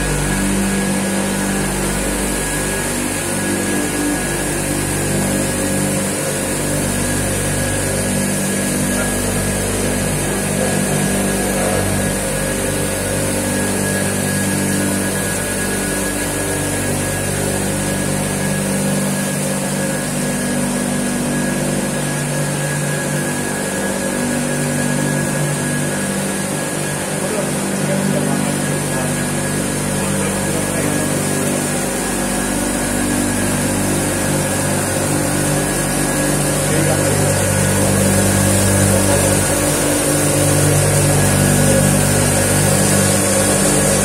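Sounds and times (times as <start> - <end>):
machine motor humming: 0.0 - 44.0.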